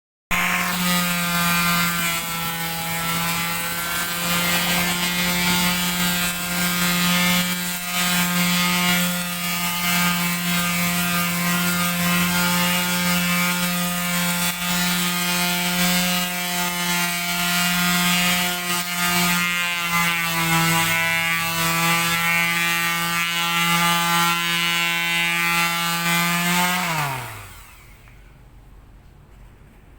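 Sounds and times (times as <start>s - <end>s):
electric sander on wood: 0.3s - 28.2s.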